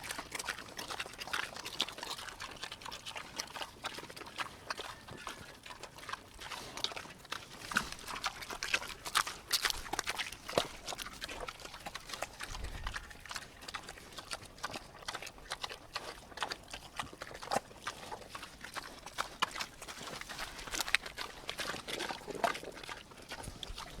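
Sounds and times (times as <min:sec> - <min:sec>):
pigs eating and slurping: 0:00.0 - 0:24.0.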